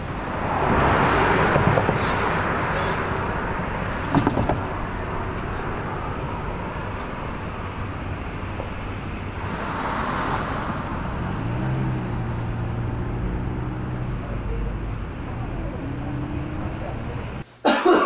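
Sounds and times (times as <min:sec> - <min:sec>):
cars passing on road: 0:00.0 - 0:17.4.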